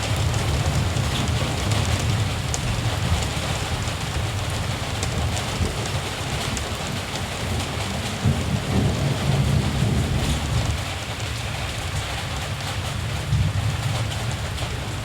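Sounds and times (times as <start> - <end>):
distant thunder rumbling: 0.0 - 12.0
steady rain: 0.0 - 15.0.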